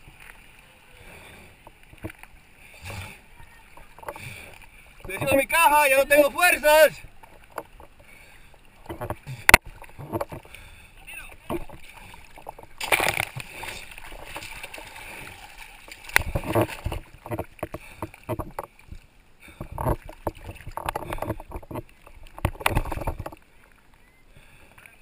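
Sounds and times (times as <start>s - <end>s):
seawater splashing and sloshing: 0.0s - 25.0s.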